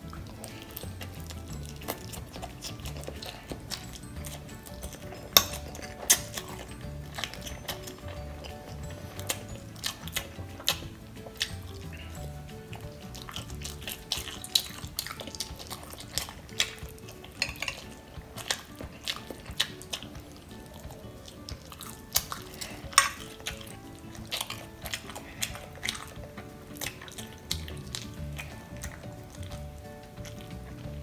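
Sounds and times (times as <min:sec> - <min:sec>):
chewing and wet mouth sounds: 0:00.0 - 0:31.0
soft background music: 0:00.0 - 0:31.0.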